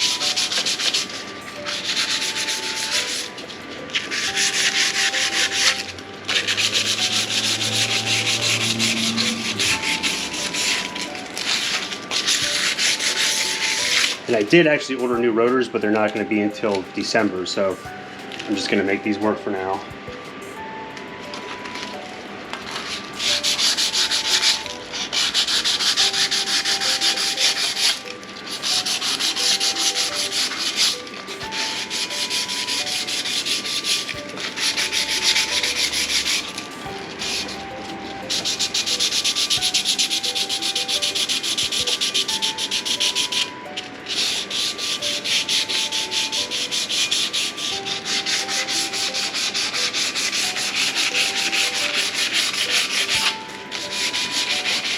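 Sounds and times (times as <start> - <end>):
sandpaper rubbing on metal: 0.0 - 15.6, 22.7 - 36.5, 37.2 - 37.6, 38.3 - 43.5, 44.1 - 54.9.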